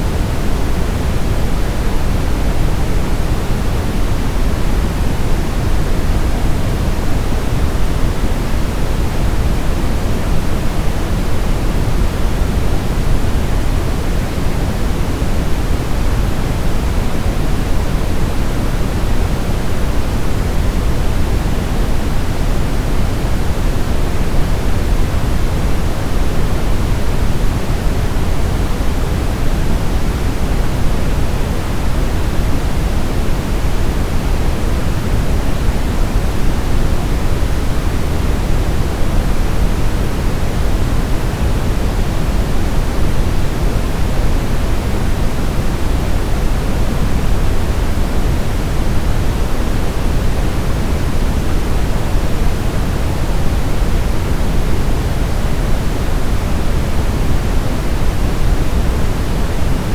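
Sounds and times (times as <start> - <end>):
low steady hiss: 0.0 - 59.9.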